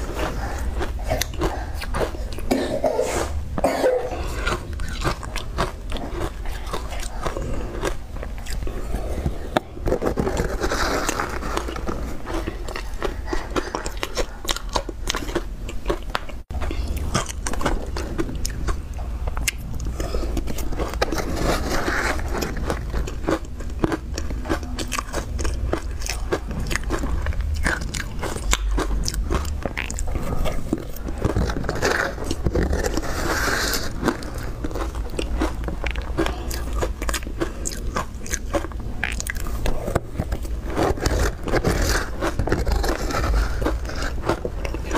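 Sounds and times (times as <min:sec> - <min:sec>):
ice crunching while chewed: 0:00.0 - 0:02.8, 0:03.6 - 0:44.9.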